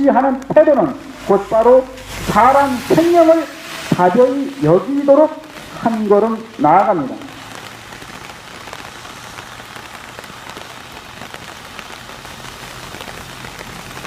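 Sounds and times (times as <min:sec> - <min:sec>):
rain pattering: 0:00.0 - 0:14.0.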